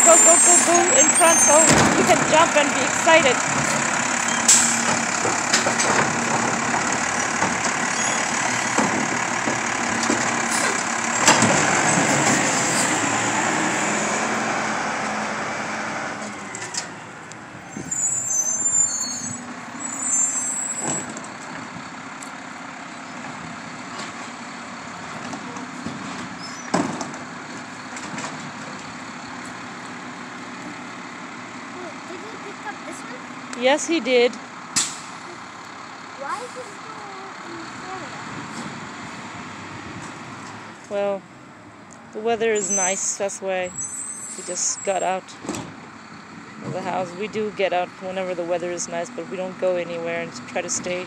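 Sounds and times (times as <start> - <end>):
garbage truck engine running: 0.0 - 51.0.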